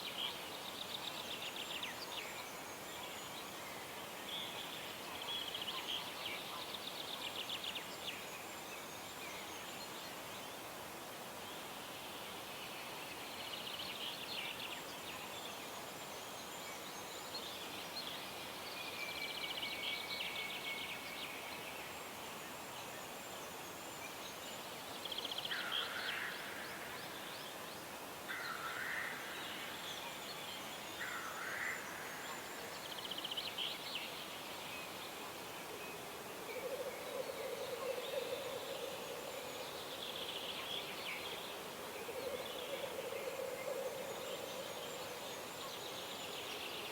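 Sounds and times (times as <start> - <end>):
faint steady hiss: 0.0 - 46.9.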